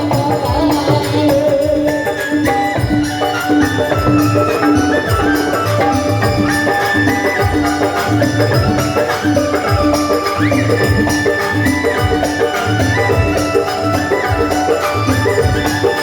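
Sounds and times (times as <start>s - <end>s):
jingling percussion: 0.0s - 16.0s
steady drum beat: 0.0s - 16.0s.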